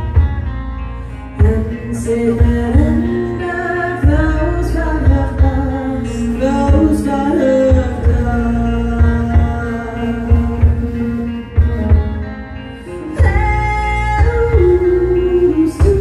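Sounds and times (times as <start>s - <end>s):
person singing: 0.9s - 16.0s.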